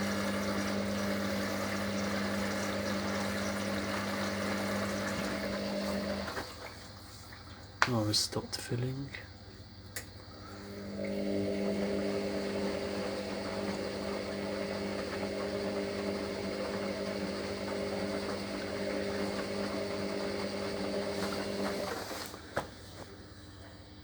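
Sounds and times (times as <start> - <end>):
drain pump humming: 0.0 - 22.6.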